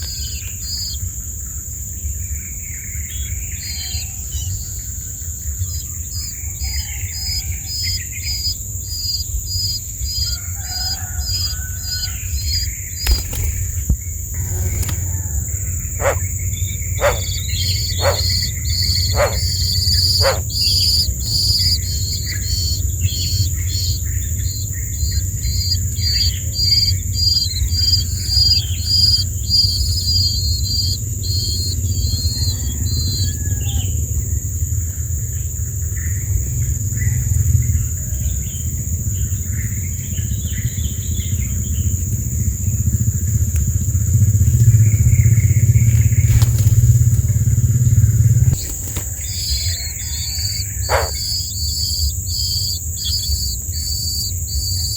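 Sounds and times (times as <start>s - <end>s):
nestlings begging with high chirps: 0.0s - 54.9s.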